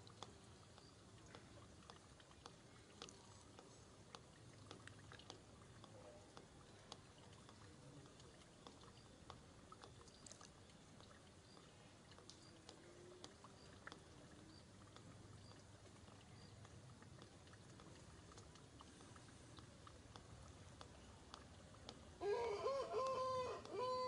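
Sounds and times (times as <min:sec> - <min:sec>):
small irregular clicks: 0:00.0 - 0:22.2, 0:23.0 - 0:23.8
faint background hiss: 0:00.0 - 0:24.0.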